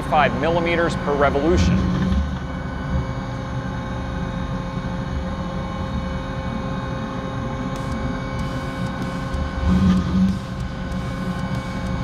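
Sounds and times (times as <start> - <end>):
cnc machine spindle whine: 0.0 - 12.0.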